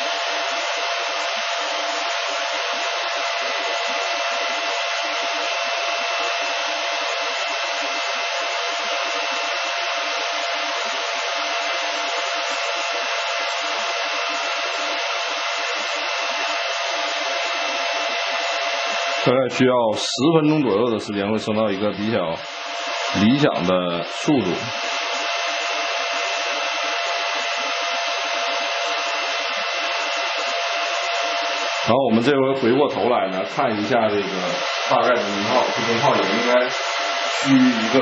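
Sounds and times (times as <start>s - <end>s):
cooling fans whirring: 0.0s - 38.0s.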